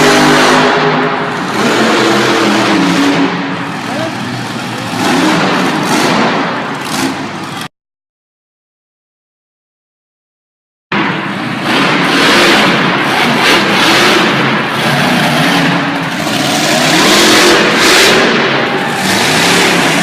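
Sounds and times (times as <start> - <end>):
truck engine revving: 0.0 - 7.7, 10.9 - 20.0.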